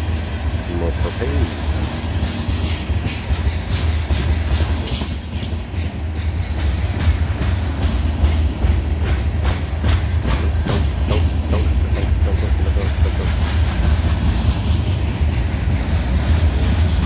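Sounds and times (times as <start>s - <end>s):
train wheels rumbling on rail: 0.0s - 17.0s
wheels clicking over rail joints: 1.5s - 17.0s.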